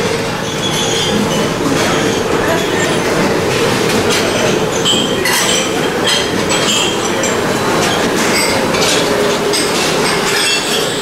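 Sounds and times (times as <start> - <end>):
machinery and ventilation noise: 0.0 - 11.0
plates and utensils clinking: 0.4 - 11.0.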